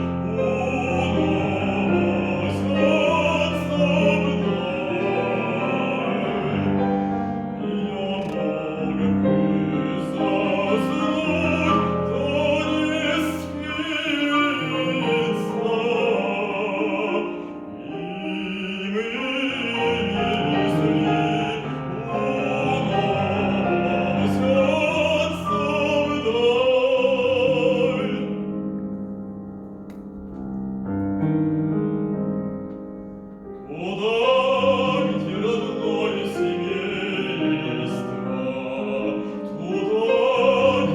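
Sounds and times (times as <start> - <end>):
man singing operatically: 0.0 - 28.6, 33.6 - 40.9
piano accompaniment: 0.0 - 40.9.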